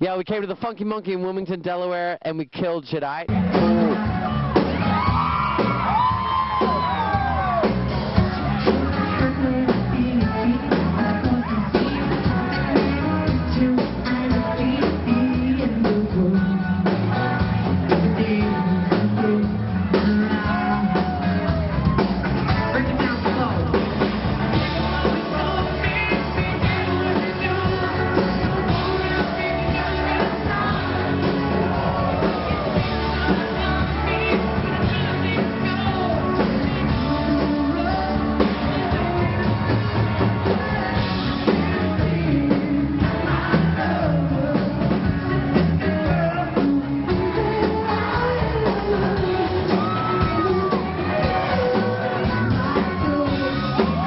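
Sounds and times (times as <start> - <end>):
rock band playing: 0.0 - 54.0
person singing: 3.3 - 54.0.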